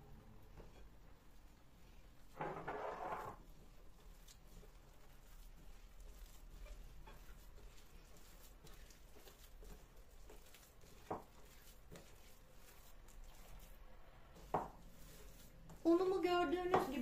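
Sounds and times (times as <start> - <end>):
hands kneading dough: 0.2 - 17.0.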